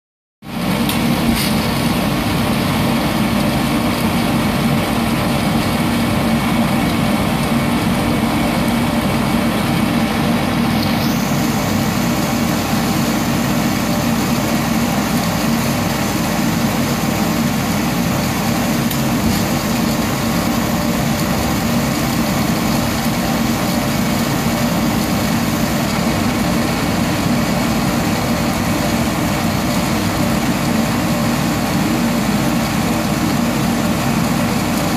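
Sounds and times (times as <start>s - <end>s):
coffee roaster hot air hiss: 0.4s - 34.9s.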